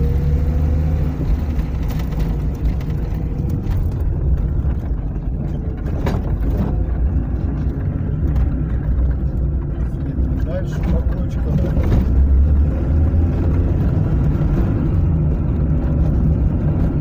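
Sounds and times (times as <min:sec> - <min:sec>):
car engine rumble: 0:00.0 - 0:17.0.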